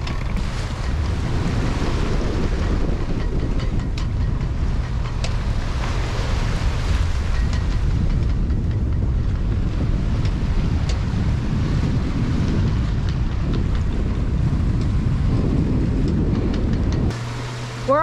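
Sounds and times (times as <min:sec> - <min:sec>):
choppy sea wash: 0:00.0 - 0:18.0
wind buffeting microphone: 0:00.0 - 0:18.0.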